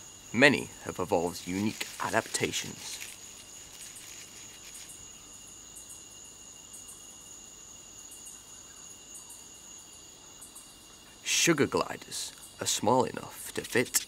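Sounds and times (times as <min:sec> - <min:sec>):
crickets trilling: 0:00.0 - 0:14.0
faint forest ambience hiss: 0:00.0 - 0:14.0.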